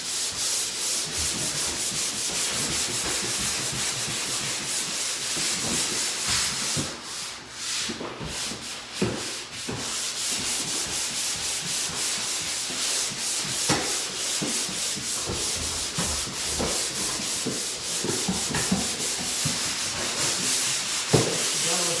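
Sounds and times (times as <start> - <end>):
hand sanding scratching: 0.0 - 22.0.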